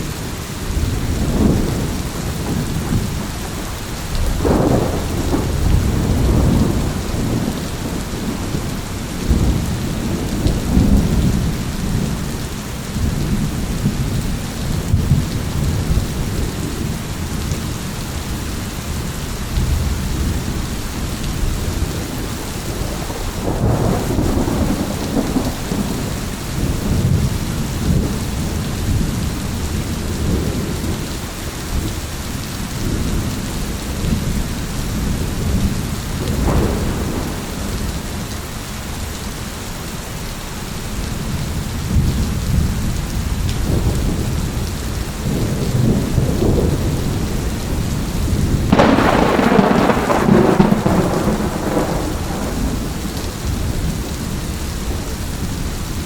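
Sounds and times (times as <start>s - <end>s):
thunder rumbling: 0.0s - 17.8s, 19.0s - 32.1s, 32.7s - 39.0s, 41.2s - 56.0s
steady rain falling: 0.0s - 56.0s.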